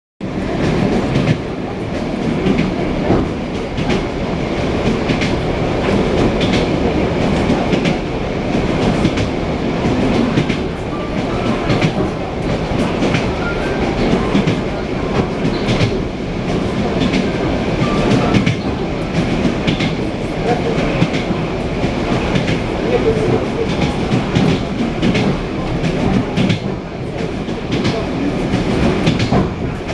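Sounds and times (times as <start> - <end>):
rumble of moving train: 0.2 - 29.9
train wheels clicking over rail joints: 0.4 - 29.9.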